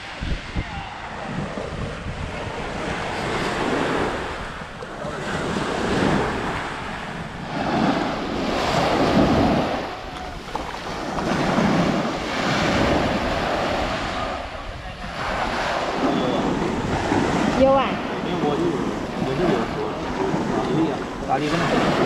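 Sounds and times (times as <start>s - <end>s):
small waves washing ashore: 0.0s - 22.0s
wind buffeting microphone: 0.0s - 22.0s.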